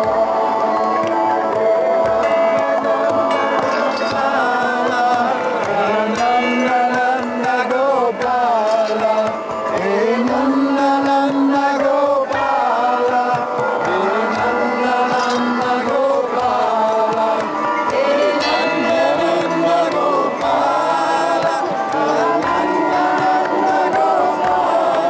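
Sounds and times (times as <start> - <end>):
low rhythmic pulse: 0.0 - 25.0
overtone choir singing: 0.0 - 25.0.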